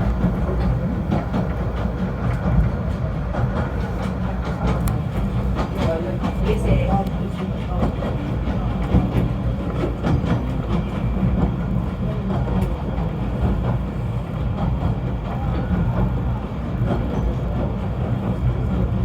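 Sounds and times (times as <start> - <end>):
rack train rumbling: 0.0 - 19.0.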